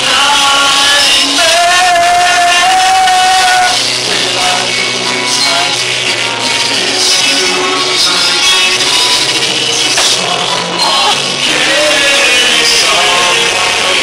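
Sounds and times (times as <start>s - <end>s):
men singing: 0.0s - 14.0s.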